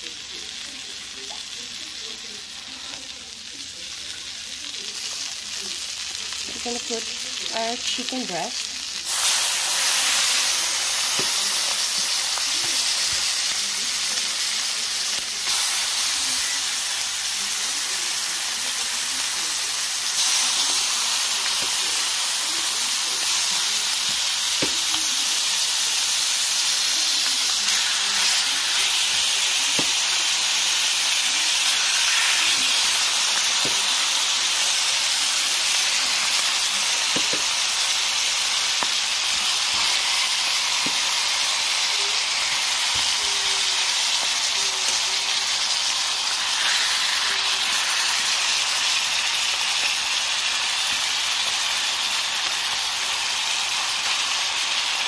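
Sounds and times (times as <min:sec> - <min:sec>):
chicken sizzling in butter: 0:00.0 - 0:55.0.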